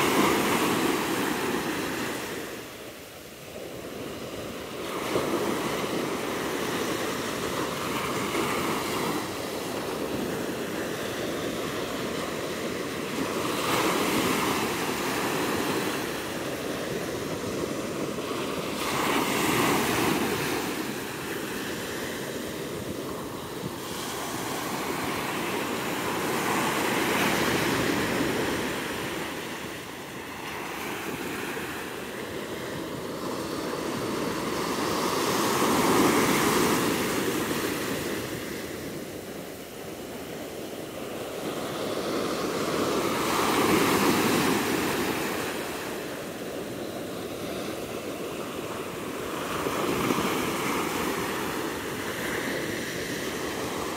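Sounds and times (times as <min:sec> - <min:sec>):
small waves breaking on sand: 0:00.0 - 0:53.9.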